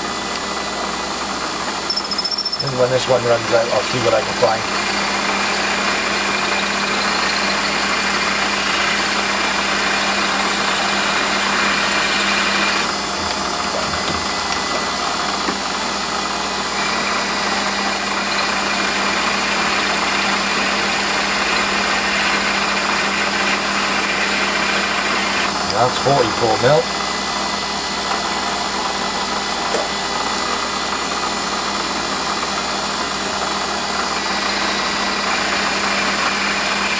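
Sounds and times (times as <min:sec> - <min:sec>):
lathe motor hum: 0:00.0 - 0:36.9
drill cutting hiss: 0:01.8 - 0:27.2, 0:32.5 - 0:36.9.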